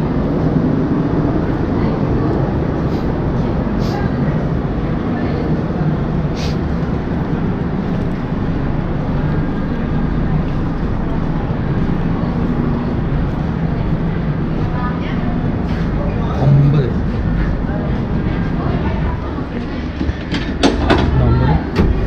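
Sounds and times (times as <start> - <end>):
faint voices: 0.0 - 22.0
standing train humming: 0.0 - 22.0.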